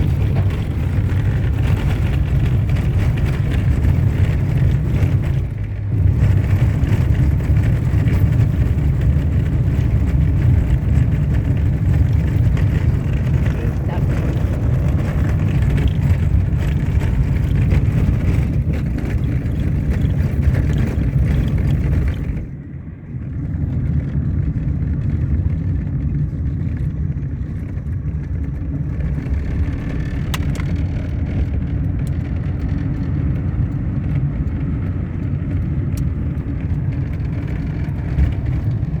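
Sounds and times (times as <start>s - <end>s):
car driving on dirt road: 0.0s - 39.0s.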